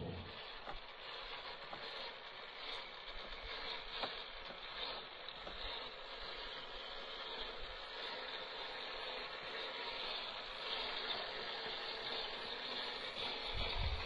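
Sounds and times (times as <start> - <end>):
toy car motor whirring: 0.0 - 14.0.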